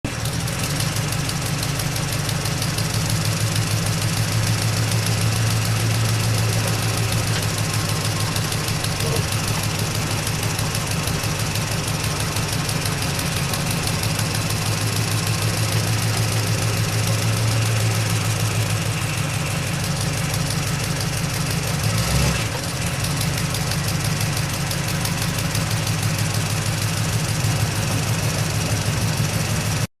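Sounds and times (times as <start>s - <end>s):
truck engine idling: 0.0s - 29.9s.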